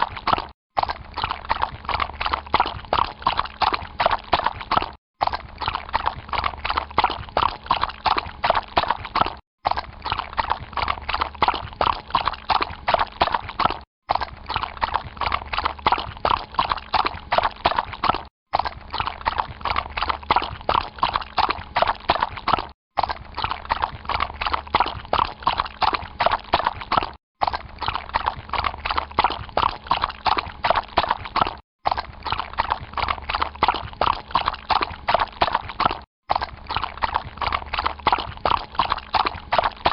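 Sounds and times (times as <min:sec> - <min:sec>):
horse hooves stepping through water: 0:00.0 - 0:39.9.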